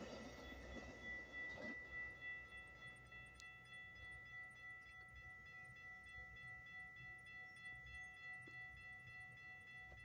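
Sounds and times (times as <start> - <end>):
crossing warning bell ringing: 0.0 - 10.0.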